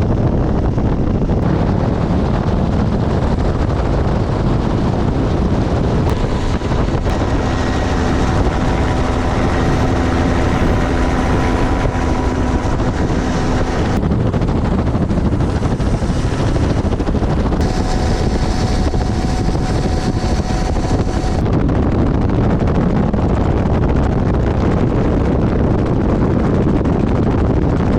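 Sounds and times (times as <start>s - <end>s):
helicopter engine and rotor: 0.0s - 27.9s
wind on microphone: 0.0s - 27.9s.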